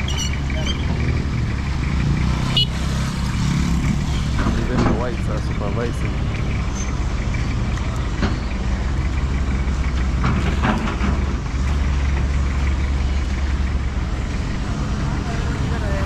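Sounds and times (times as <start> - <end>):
motor engine low rumble: 0.0 - 16.0
traffic or machinery noise: 0.0 - 16.0.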